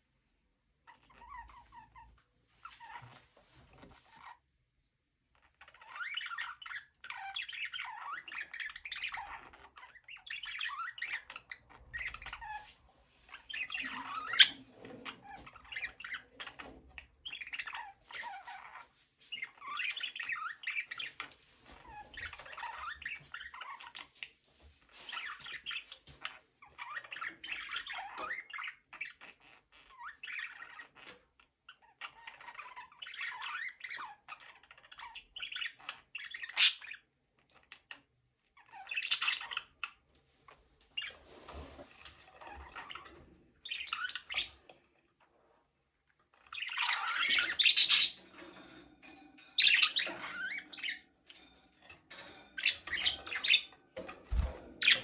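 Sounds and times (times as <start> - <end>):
budgies chirping and warbling: 5.4 - 24.4, 25.0 - 38.0, 38.6 - 40.0, 40.9 - 45.6, 46.2 - 55.0.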